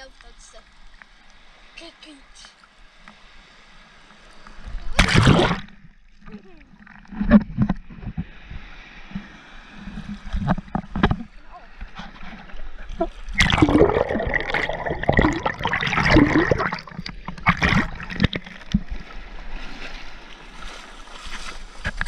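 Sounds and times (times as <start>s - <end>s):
steady wash of water: 0.0s - 22.0s
waves splashing on microphone: 0.0s - 22.0s.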